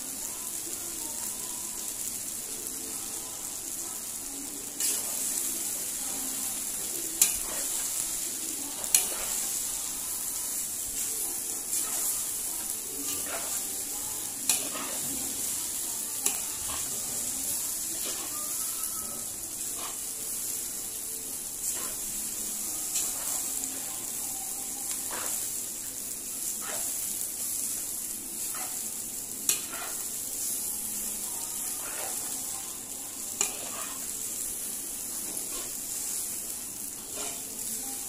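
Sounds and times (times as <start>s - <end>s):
noodles sizzling in a wok: 0.0s - 38.0s.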